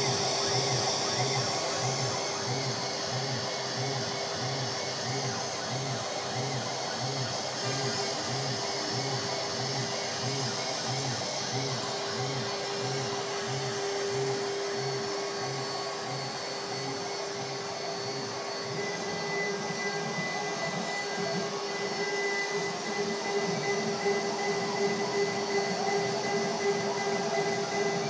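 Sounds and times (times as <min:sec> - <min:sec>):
router spindle whining: 0:00.0 - 0:28.0.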